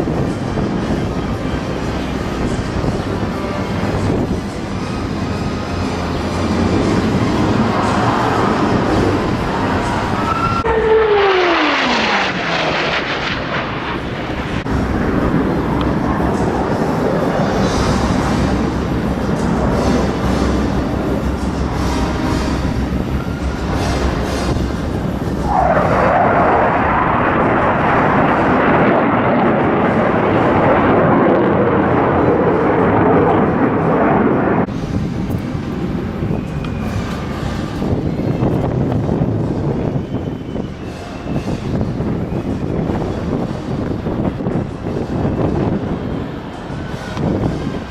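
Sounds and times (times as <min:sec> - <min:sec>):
aircraft engine roar: 0:00.0 - 0:47.9
airplane flying past: 0:00.0 - 0:47.9.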